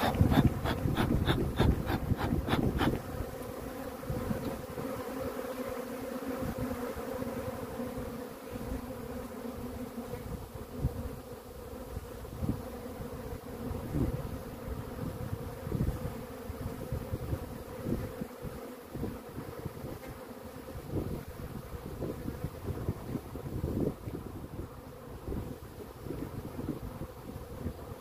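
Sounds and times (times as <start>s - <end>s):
bee swarm buzzing: 0.0s - 28.0s.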